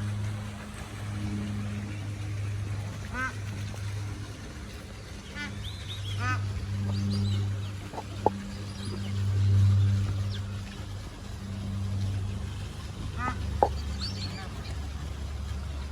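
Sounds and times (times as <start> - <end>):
waterfowl honking: 0.0 - 4.4, 5.1 - 15.9
steady low hum: 0.0 - 15.9.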